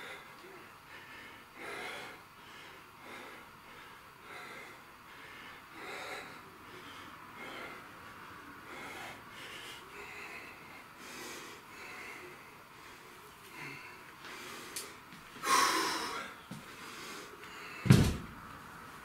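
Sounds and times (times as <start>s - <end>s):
man breathing hard: 0.0s - 18.2s.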